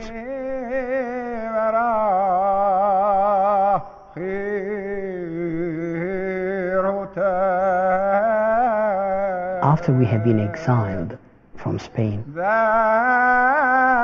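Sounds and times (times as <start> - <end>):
man chanting with vibrato: 0.0 - 14.0.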